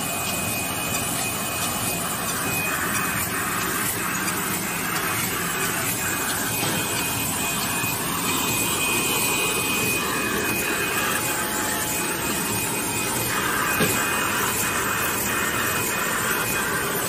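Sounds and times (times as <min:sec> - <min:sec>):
gluing machine running: 0:00.0 - 0:17.0.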